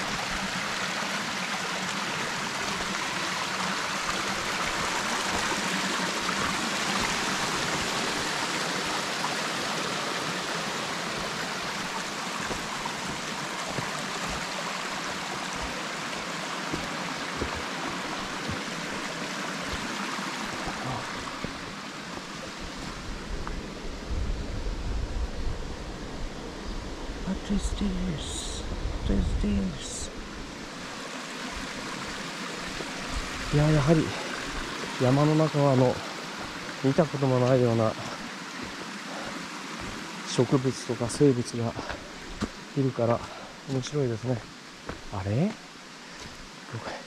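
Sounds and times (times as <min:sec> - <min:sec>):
mountain stream rushing: 0:00.0 - 0:25.1, 0:25.8 - 0:47.0.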